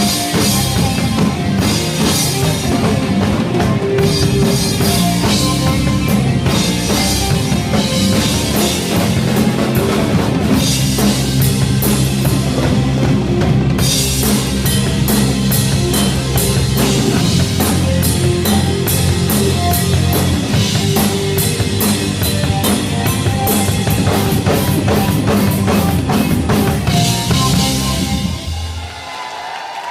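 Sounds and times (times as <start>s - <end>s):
drum kit: 0.0s - 29.2s
rock band playing: 0.0s - 29.3s.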